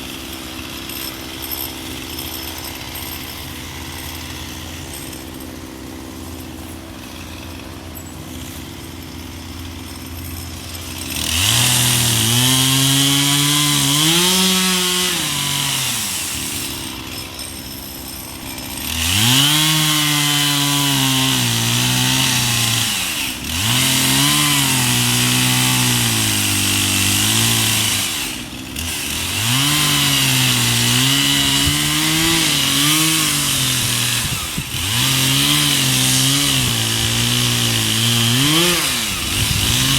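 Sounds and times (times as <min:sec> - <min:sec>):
chainsaw cutting into wood: 0:00.0 - 0:39.9.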